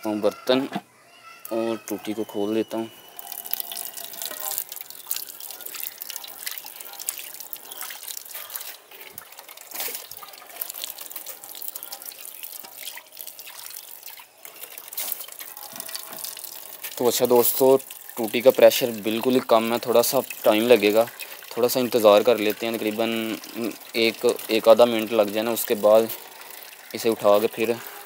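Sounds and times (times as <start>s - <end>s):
tap water trickling into bowl: 1.4s - 28.0s.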